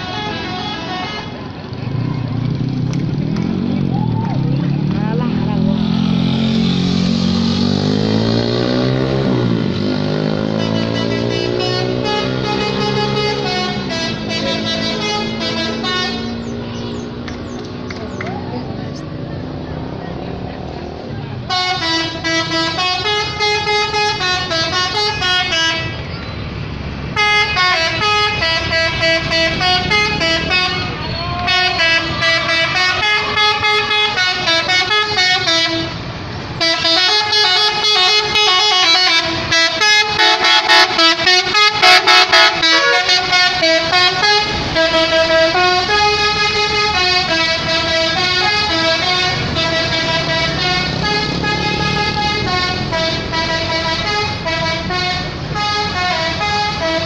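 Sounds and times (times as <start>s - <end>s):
multi-tone bus air horns: 0.0s - 1.6s, 6.5s - 16.6s, 21.5s - 26.1s, 27.1s - 57.0s.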